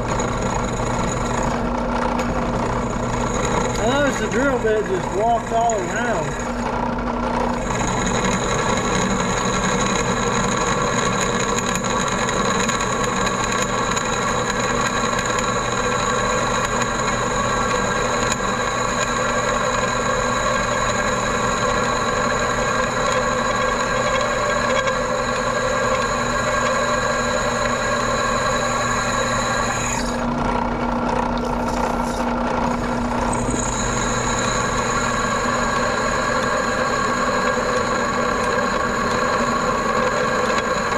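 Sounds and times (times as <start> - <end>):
drill press cutting steel: 0.0 - 40.9.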